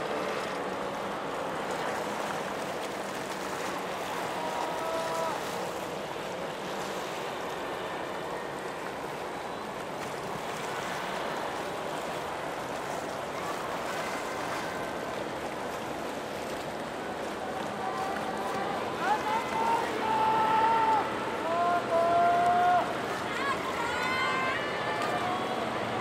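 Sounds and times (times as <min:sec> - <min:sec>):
sea waves: 0:00.0 - 0:26.0
wind: 0:00.0 - 0:26.0.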